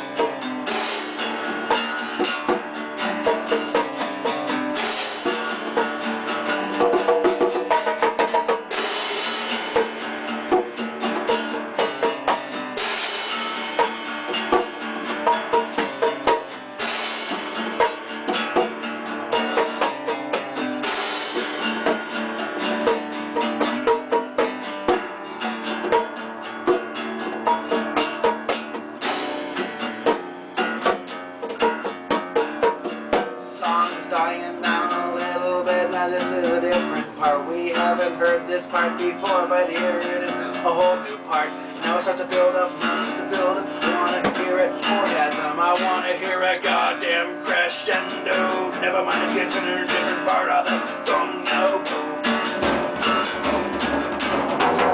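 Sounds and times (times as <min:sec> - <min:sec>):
drum kit beat: 0:00.0 - 0:54.9
strummed guitar: 0:00.0 - 0:54.9.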